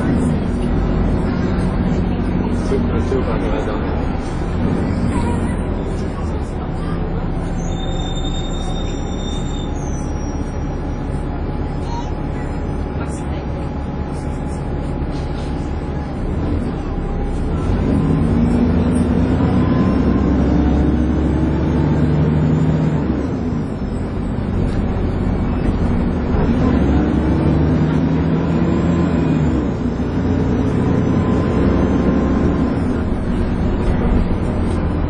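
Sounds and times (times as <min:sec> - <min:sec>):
bus engine whining: 0:00.0 - 0:35.0.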